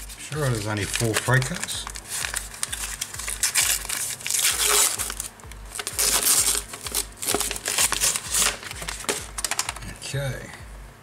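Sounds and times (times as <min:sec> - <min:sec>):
paper wrapping crinkling: 0:00.0 - 0:09.9
background music with low beat: 0:00.0 - 0:11.0.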